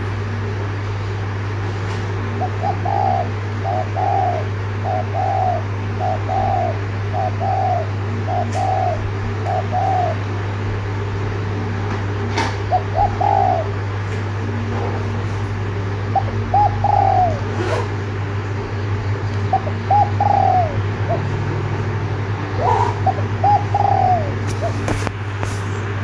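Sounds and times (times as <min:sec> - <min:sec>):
steady low hum: 0:00.0 - 0:26.0
dove cooing: 0:02.2 - 0:10.9, 0:11.6 - 0:25.2.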